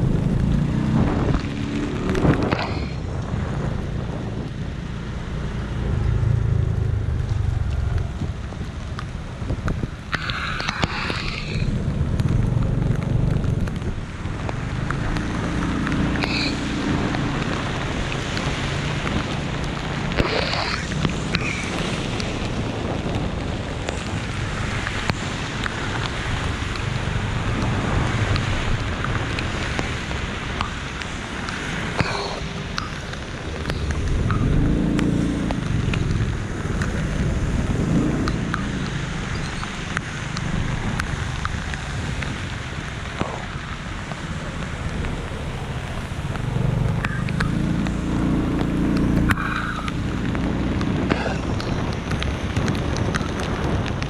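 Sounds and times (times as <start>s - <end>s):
road traffic rumble: 0.0s - 54.0s
steady rain falling: 0.0s - 54.0s.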